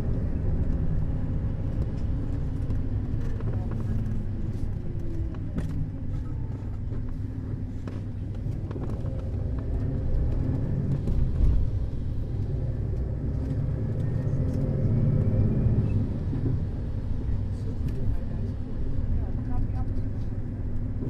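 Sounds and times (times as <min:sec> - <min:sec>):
coach engine and road rumble: 0:00.0 - 0:21.0.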